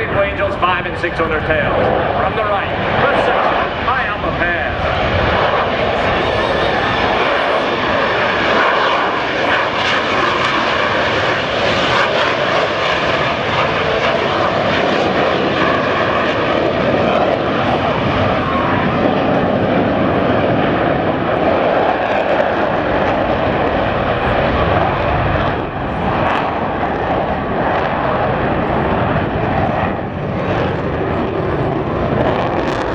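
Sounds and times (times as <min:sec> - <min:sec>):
jet engines roaring: 0:00.0 - 0:32.9.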